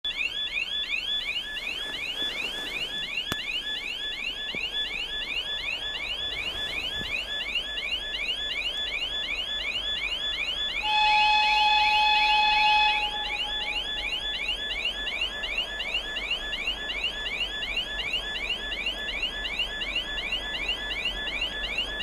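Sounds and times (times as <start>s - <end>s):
railway warning alarm whooping: 0.1s - 22.0s.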